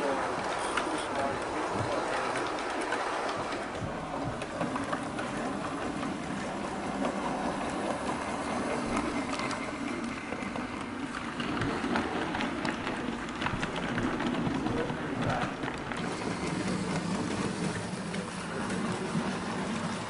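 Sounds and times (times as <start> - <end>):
wheels clicking over track: 0.0 - 20.0.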